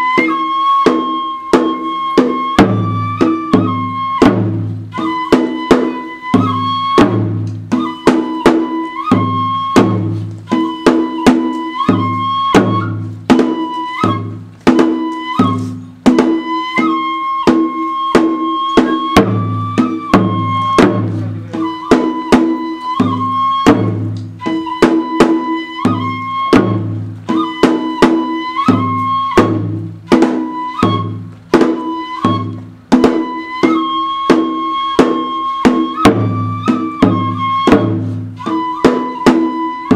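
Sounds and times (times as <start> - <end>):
taiko drum strokes: 0.0 - 39.9
transverse flute melody: 0.0 - 39.9.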